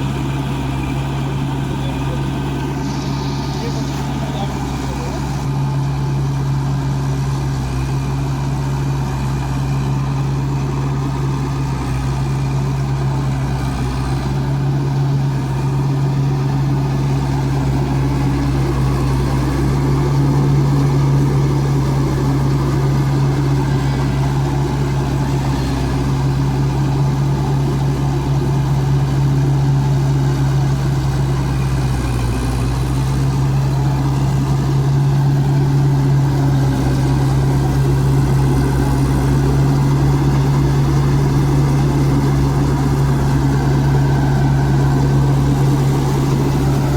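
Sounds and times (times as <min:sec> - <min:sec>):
harvester engine humming: 0:00.0 - 0:46.9.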